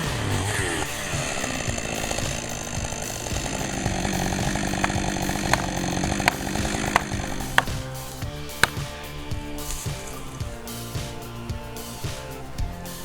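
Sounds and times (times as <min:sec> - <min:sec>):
sharp clicks: 0:00.0 - 0:12.6
chainsaw engine running: 0:00.0 - 0:13.0.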